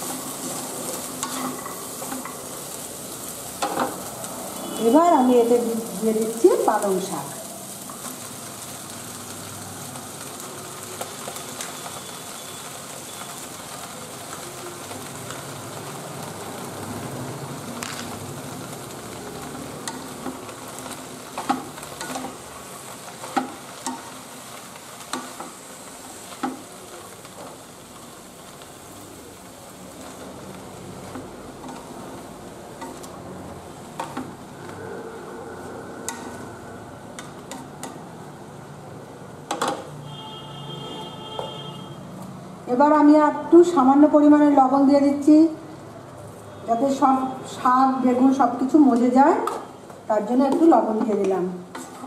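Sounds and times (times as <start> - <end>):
vegetables sizzling in oil: 0.0 - 52.0.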